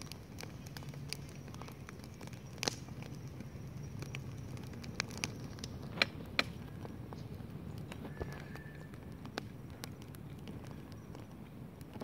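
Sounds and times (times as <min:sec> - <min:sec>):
campfire crackling: 0:00.0 - 0:12.0
sharp pops from fire: 0:00.0 - 0:12.0.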